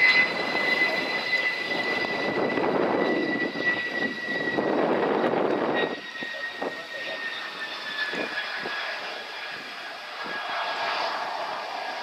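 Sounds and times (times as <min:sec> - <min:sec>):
jet engine whine and rush: 0:00.0 - 0:12.0.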